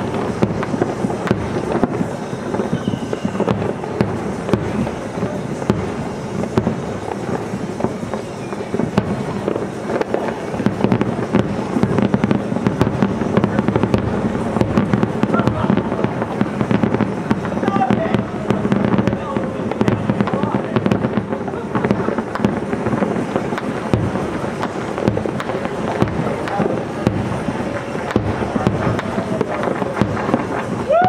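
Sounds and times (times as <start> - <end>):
firework shells bursting: 0.0 - 31.0.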